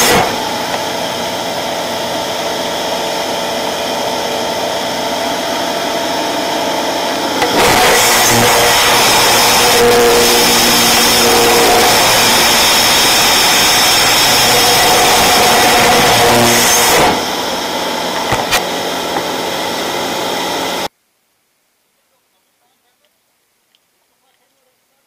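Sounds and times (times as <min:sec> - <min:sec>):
loud rushing noise: 0:00.0 - 0:20.9.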